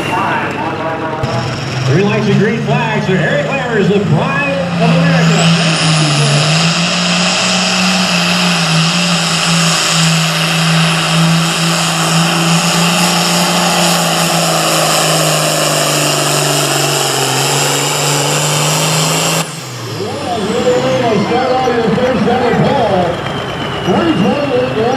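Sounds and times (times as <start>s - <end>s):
tractor diesel engine at full throttle: 0.0s - 24.9s.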